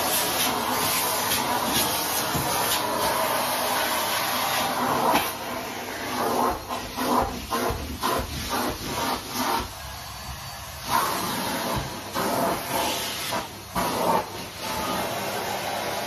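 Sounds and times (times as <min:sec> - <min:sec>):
vacuum cleaner sucking on carpet: 0:00.0 - 0:16.0.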